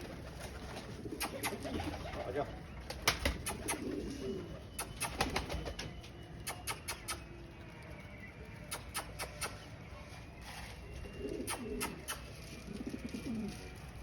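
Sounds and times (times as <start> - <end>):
pigeons cooing: 0.0 - 7.3, 8.6 - 14.0.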